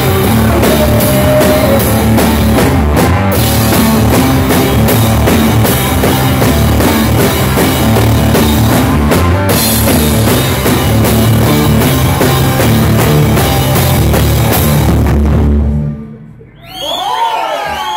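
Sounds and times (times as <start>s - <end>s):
pounding drum kit: 0.0s - 16.1s
distorted electric guitar: 0.0s - 16.3s.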